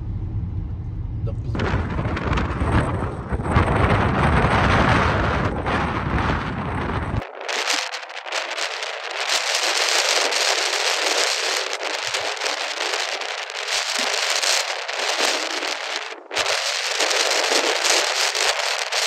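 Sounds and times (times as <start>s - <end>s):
surf breaking on rock: 1.6s - 19.0s.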